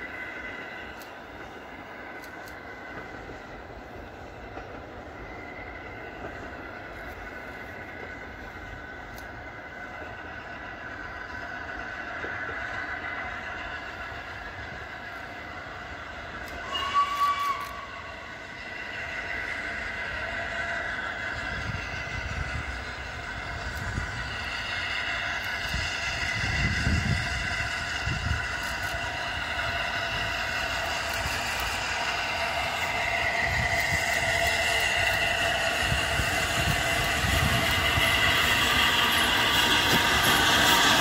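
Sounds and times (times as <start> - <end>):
steam train high tones: 0.0 - 41.0
steam train rumbling: 0.0 - 41.0.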